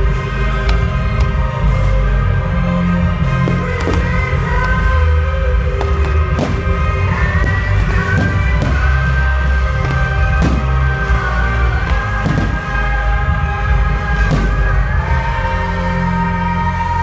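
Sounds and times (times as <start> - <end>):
music with heavy bass: 0.0 - 17.0.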